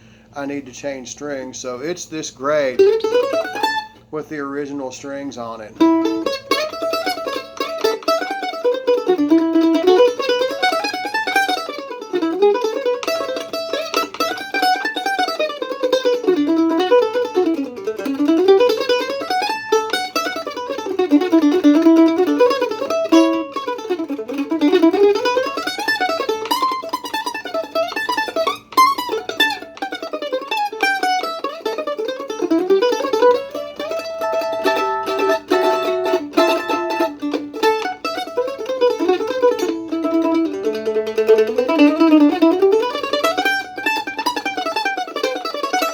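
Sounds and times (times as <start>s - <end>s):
mandolin playing fast runs: 0.8s - 45.9s.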